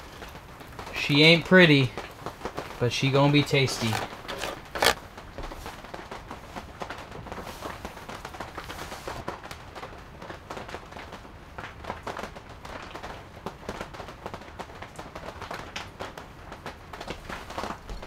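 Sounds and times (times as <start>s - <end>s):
rain pattering on canvas tent: 0.0s - 18.0s.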